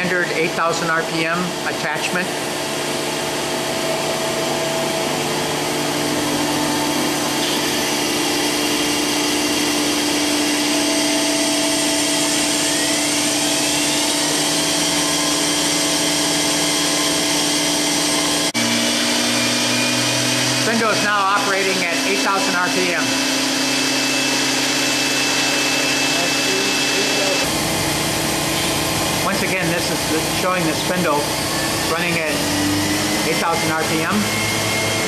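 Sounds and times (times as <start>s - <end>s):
machine running noise: 0.0s - 35.0s
spindle whine rising: 0.0s - 35.0s.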